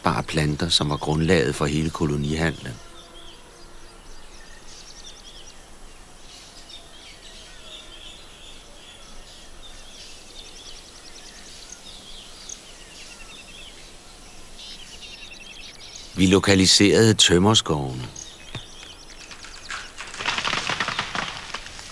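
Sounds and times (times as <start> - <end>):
birds chirping and calling: 0.0 - 21.9
faint steady background hiss: 0.0 - 21.9.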